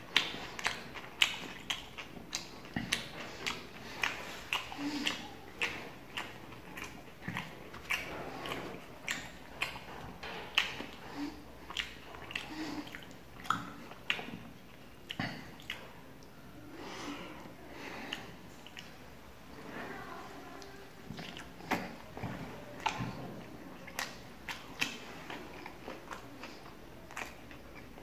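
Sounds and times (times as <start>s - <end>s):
person chewing and lip-smacking: 0.0s - 16.4s, 17.0s - 19.0s, 20.6s - 28.0s.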